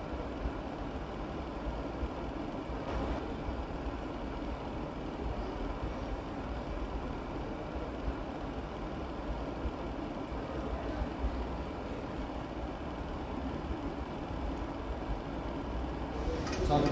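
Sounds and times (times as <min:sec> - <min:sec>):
background machinery rumble and hiss: 0:00.0 - 0:16.9.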